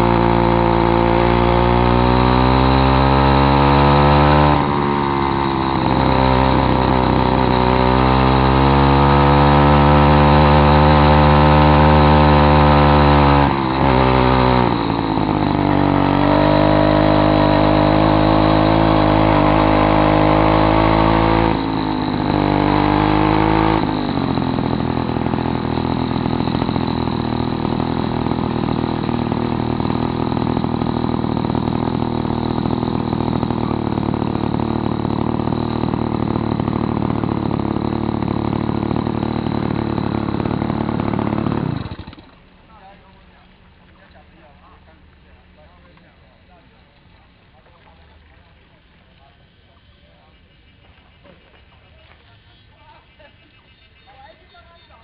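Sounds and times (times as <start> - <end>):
two-stroke bicycle engine running: 0.0 - 46.2.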